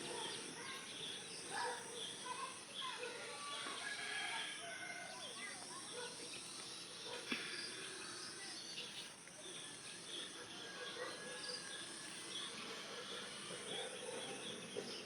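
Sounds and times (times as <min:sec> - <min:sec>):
crickets and insects droning: 0:00.0 - 0:15.0.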